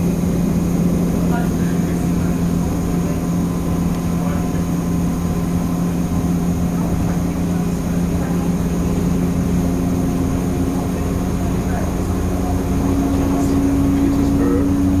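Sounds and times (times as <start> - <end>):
electric railway drive hum: 0.0 - 15.0
wheels rumbling on track: 0.0 - 15.0.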